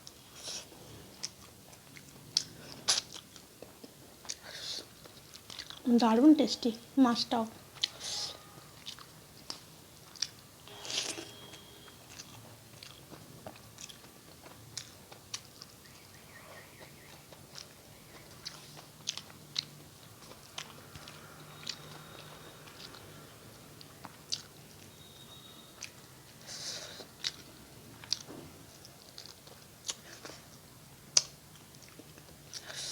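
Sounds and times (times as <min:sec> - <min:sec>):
chewing: 0:00.0 - 0:05.9, 0:07.7 - 0:25.1, 0:25.8 - 0:32.9.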